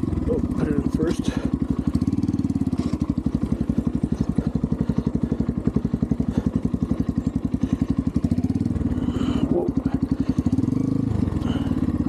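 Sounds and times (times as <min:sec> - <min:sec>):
dirt bike engine at low revs: 0:00.0 - 0:12.0.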